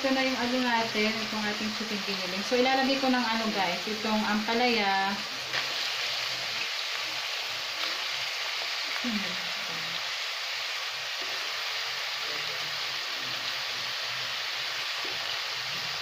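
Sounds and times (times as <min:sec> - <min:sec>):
oil sizzling in a wok: 0:00.0 - 0:16.0.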